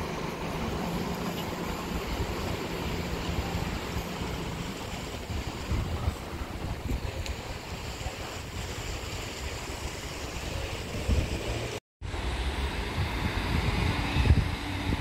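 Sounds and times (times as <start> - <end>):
wind buffeting microphone: 0.0 - 11.8, 12.4 - 15.0.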